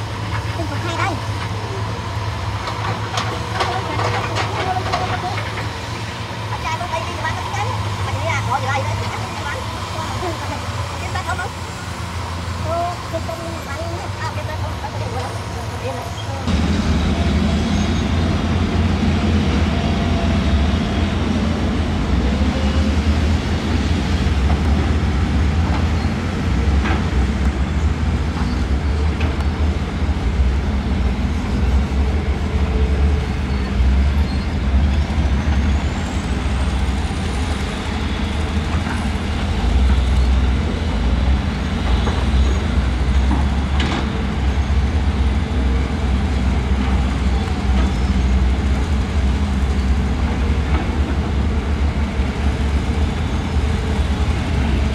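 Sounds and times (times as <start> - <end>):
diesel excavator engine running: 0.0 - 54.9.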